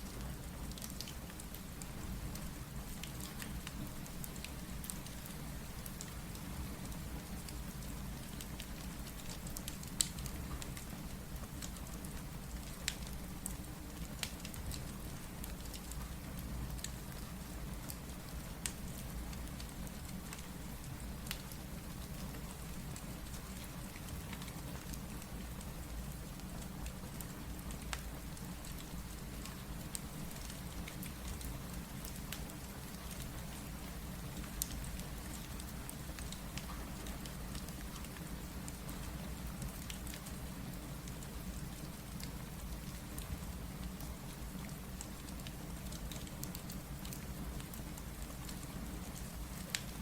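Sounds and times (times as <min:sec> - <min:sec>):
steady rain: 0:00.0 - 0:50.0
wood fire crackling: 0:07.3 - 0:50.0.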